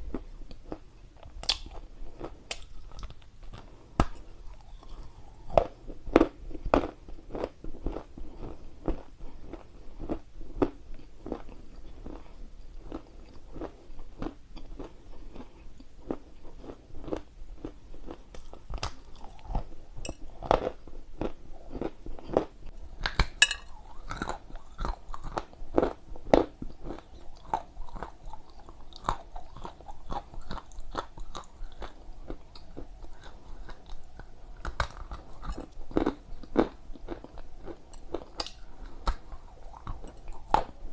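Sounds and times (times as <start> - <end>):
person chewing crunchy clay: 0.0 - 40.9.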